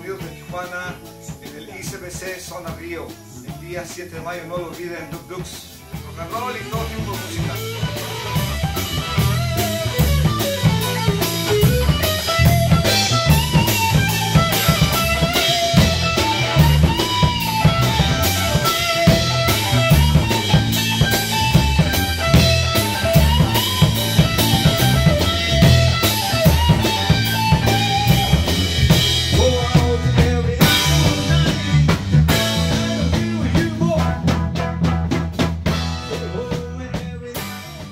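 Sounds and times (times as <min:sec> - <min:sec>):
drum kit beat: 0:00.0 - 0:37.9
melodic lead line: 0:03.5 - 0:36.6.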